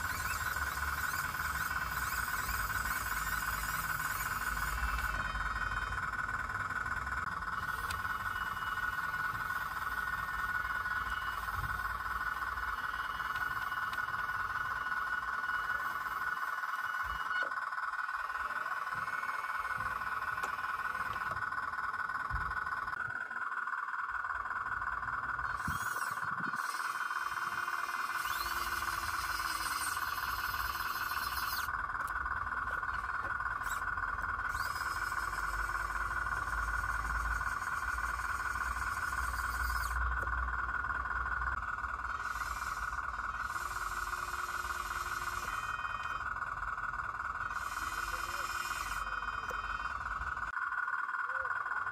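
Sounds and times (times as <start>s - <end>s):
small electric motor whine: 0.0s - 51.9s.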